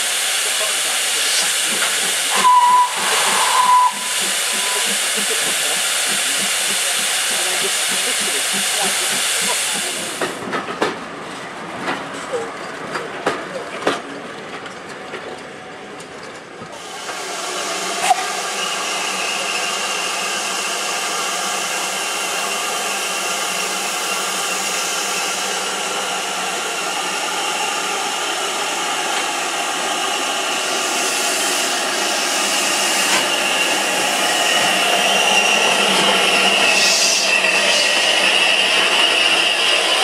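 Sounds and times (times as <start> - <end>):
steam locomotive hissing: 0.0 - 10.4, 16.8 - 40.0.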